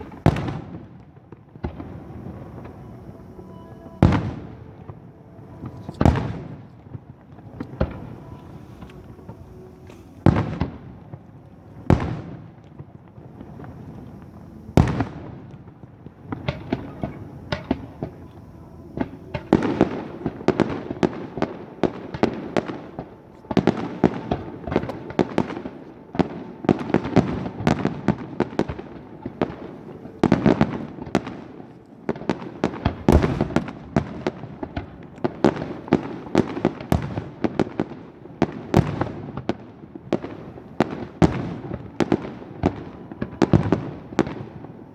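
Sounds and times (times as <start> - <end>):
firework bangs: 0.0 - 44.9
rapid firework crackle: 0.0 - 44.9.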